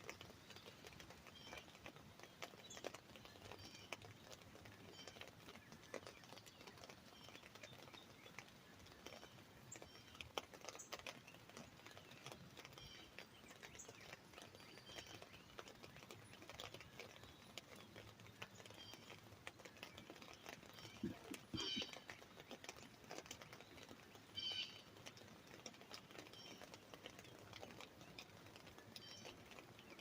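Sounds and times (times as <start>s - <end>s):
birds chirping: 0.0s - 30.0s
raindrops tapping on an umbrella: 0.0s - 30.0s.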